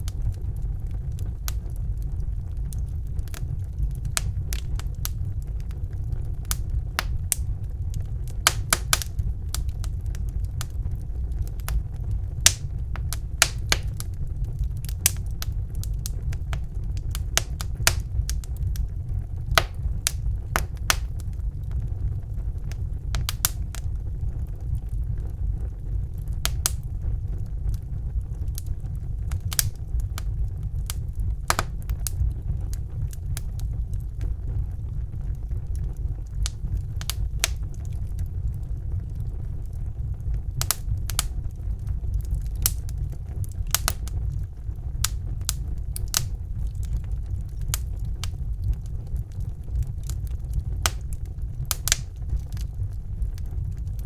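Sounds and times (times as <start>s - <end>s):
fire flames rumbling: 0.0s - 54.0s
logs popping and crackling: 0.0s - 54.0s.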